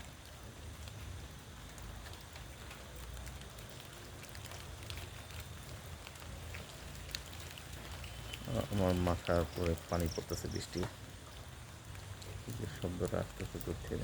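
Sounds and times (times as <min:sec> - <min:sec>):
rain falling on leaves: 0:00.0 - 0:14.0
drops ticking: 0:01.6 - 0:14.0.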